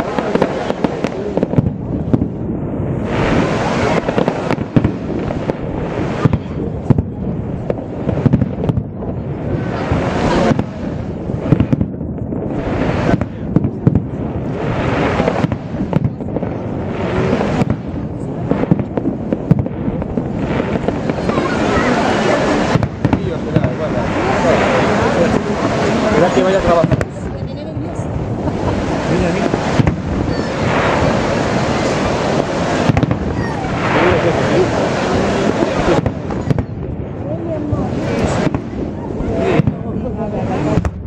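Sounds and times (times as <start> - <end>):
fireworks bursting with sharp bangs: 0.0 - 41.0.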